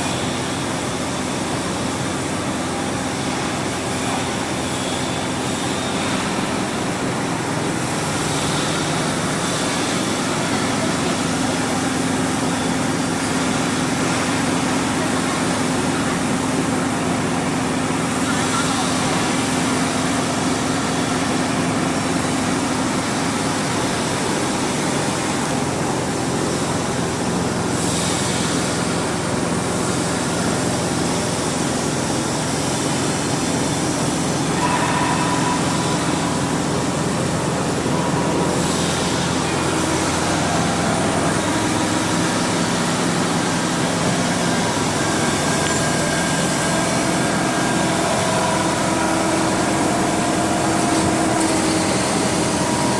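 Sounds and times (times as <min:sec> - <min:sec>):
hydraulic pump humming and hissing: 0:00.0 - 0:52.9.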